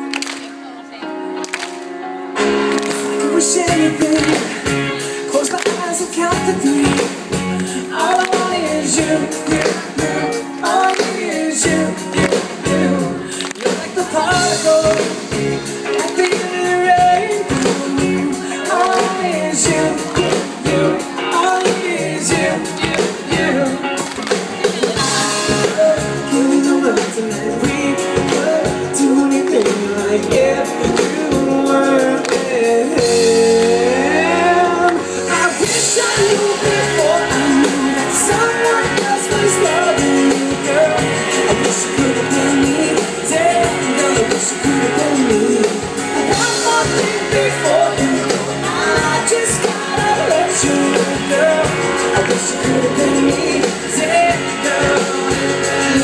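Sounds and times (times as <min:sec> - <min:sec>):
electric guitar: 0:00.0 - 0:56.0
drums: 0:01.5 - 0:56.0
man singing lead: 0:02.5 - 0:56.0.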